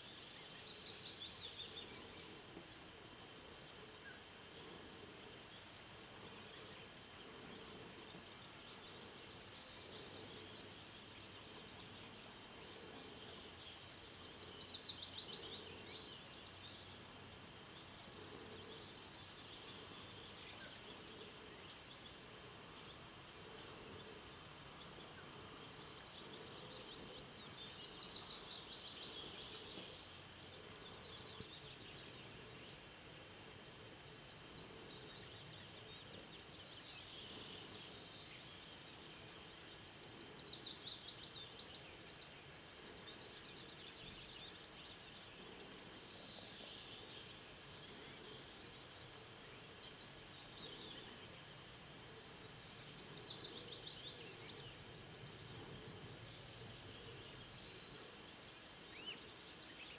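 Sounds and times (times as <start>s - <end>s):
faint steady background: 0.0s - 59.9s
small birds chirping: 0.0s - 59.9s.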